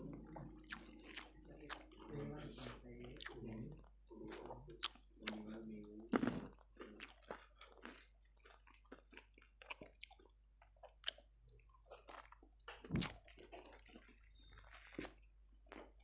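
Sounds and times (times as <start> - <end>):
crunching and chewing food: 0.0 - 16.0.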